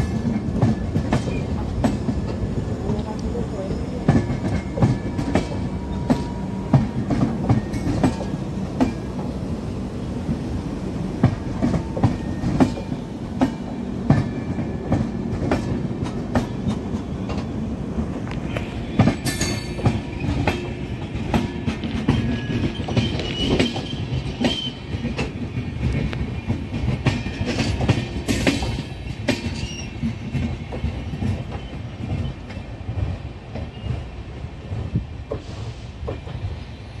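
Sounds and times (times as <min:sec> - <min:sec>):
train wheels clacking over joints: 0:00.0 - 0:09.4, 0:11.2 - 0:36.5
low train rumble: 0:00.0 - 0:37.0.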